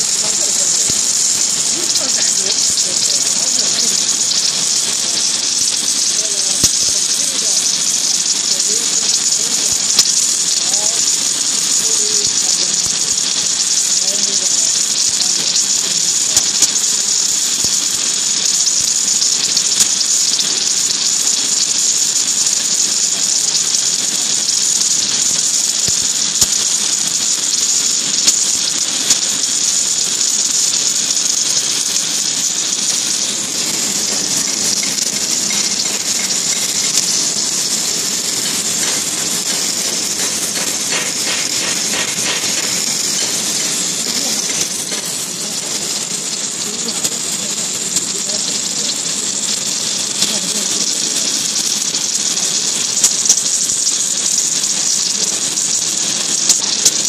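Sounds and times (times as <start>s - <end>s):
welding hiss: 0.0s - 57.0s.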